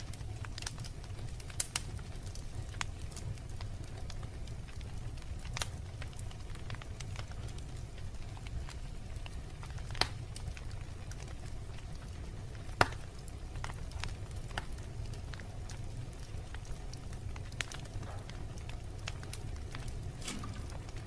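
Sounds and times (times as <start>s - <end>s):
fire crackling: 0.0s - 21.0s
wood fire popping: 0.0s - 21.0s.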